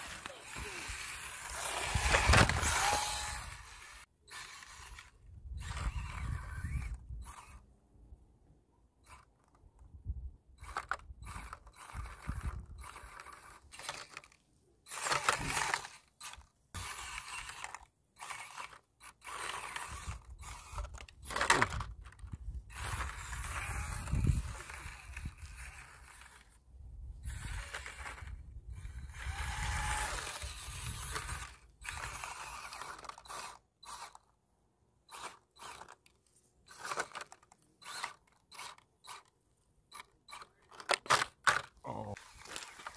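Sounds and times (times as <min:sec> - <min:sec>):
toy car motor whining: 0:00.0 - 0:07.6, 0:09.0 - 0:09.6, 0:10.5 - 0:26.6, 0:27.2 - 0:34.4, 0:35.0 - 0:42.9.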